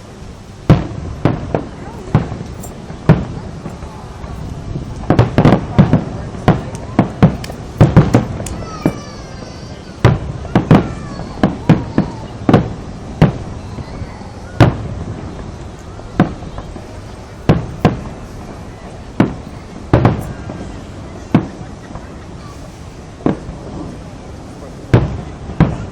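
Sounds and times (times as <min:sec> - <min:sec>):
fireworks bursting with booms: 0:00.0 - 0:25.9.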